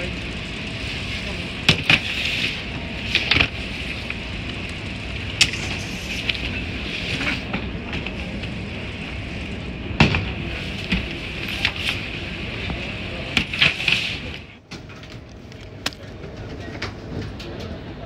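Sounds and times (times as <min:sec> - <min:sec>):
baggage carousel running: 0:00.0 - 0:18.0.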